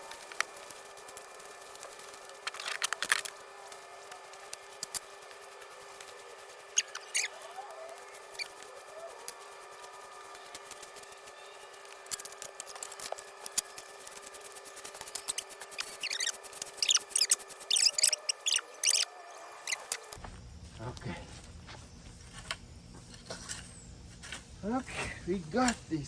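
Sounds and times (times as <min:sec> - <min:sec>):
hands rustling plant material: 0:00.0 - 0:19.0, 0:19.7 - 0:26.0.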